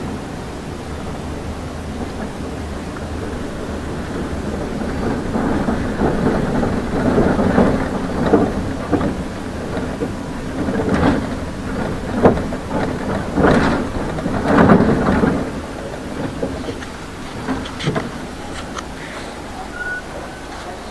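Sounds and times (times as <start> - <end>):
bus interior rumble: 0.0 - 20.9
knocks and rattles: 1.0 - 19.7.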